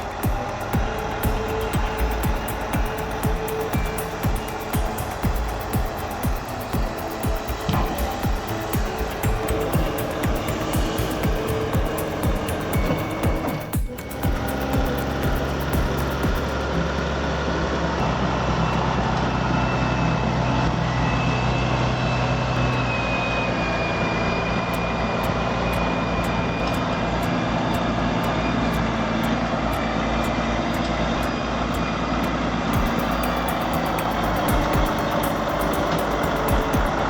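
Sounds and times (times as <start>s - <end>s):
faint high whine: 0.0s - 29.7s
heavy engine running under load: 0.0s - 37.0s.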